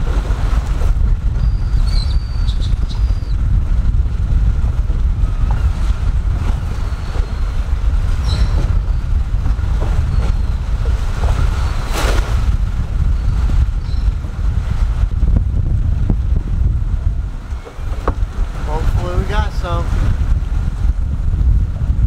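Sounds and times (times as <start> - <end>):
choppy water: 0.0 - 22.0
wind buffeting microphone: 0.0 - 22.0.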